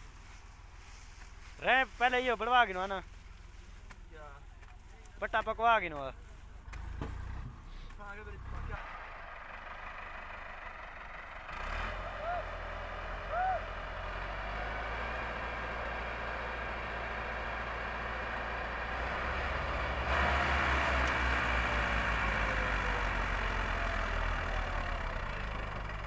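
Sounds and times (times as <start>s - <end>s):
road noise: 0.0s - 26.0s
vehicle engine running: 0.0s - 26.0s.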